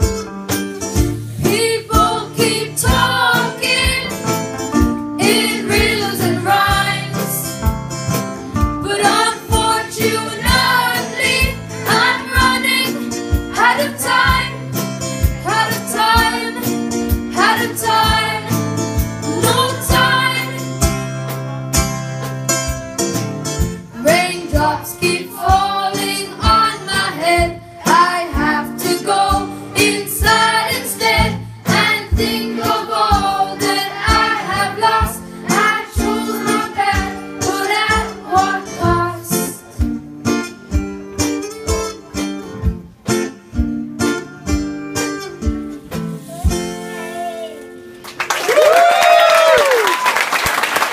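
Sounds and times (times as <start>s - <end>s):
instrumental live band music: 0.0s - 49.2s.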